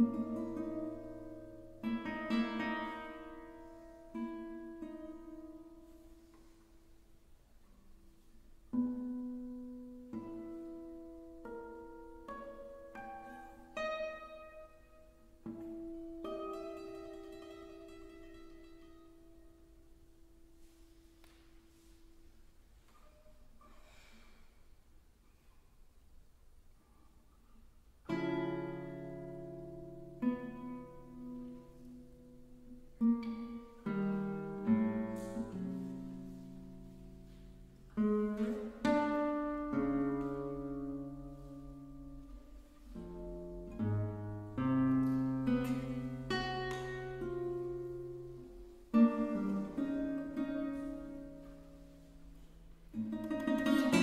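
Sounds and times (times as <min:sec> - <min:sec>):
classical guitar chords: 0:00.0 - 0:24.2, 0:28.0 - 0:54.0.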